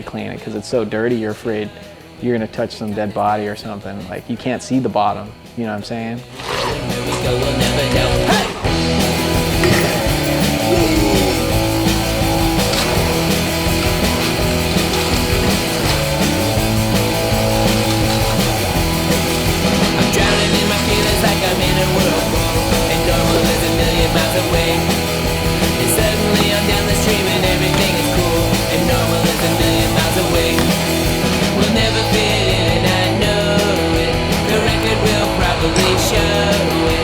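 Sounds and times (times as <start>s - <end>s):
punk rock with distorted guitars: 6.8s - 37.0s.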